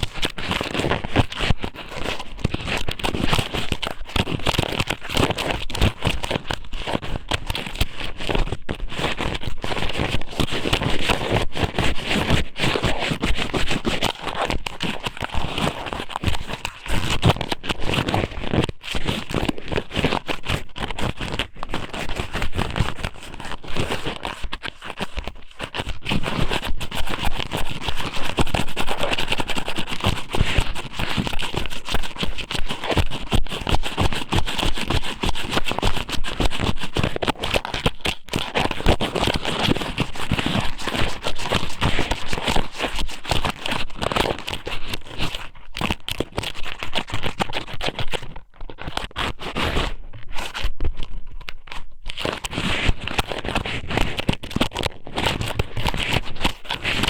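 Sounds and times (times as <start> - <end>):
squid rubbed against microphone: 0.0 - 57.0.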